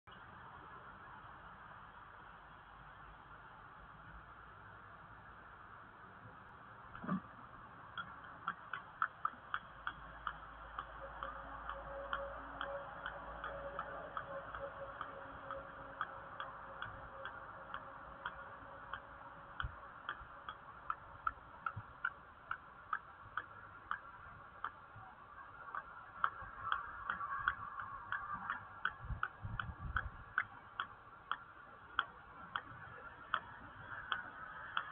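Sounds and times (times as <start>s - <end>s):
faint steady hiss: 0.1s - 34.9s
sharp irregular ticks: 6.9s - 34.9s.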